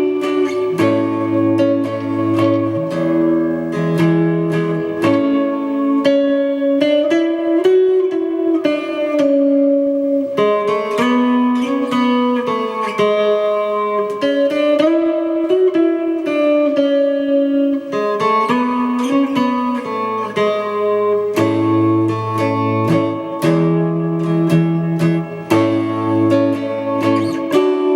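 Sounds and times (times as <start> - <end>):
electric guitar notes and chords: 0.0 - 27.9.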